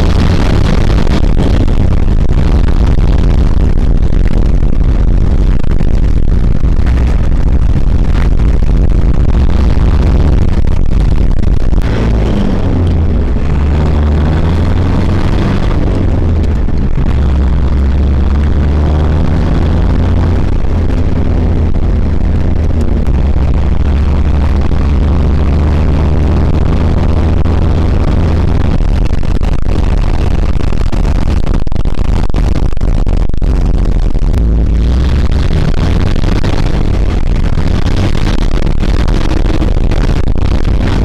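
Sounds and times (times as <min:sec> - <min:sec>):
diesel engine rumble in cab: 0:00.0 - 0:41.0.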